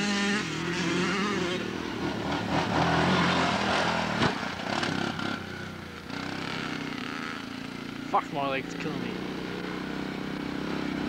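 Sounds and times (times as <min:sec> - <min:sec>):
quad bike engine revving: 0:00.0 - 0:11.0.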